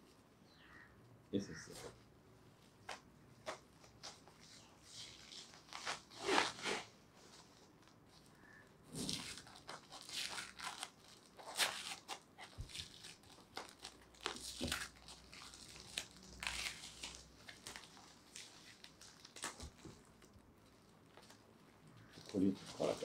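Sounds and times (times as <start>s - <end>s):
packaging wrap crinkling and tearing: 2.9s - 23.0s.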